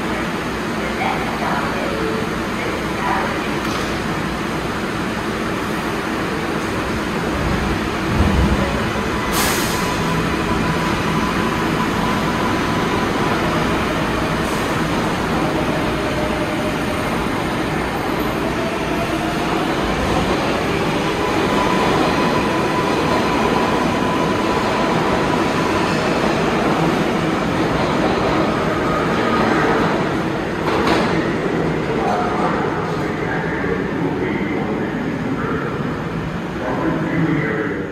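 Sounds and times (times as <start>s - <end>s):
subway train wheels rumbling: 0.0s - 37.9s.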